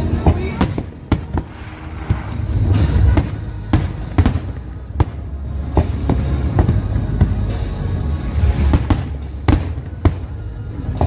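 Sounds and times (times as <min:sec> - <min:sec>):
fireworks bursting with sharp bangs: 0:00.0 - 0:07.5, 0:08.2 - 0:11.0
low rumble: 0:00.0 - 0:11.0.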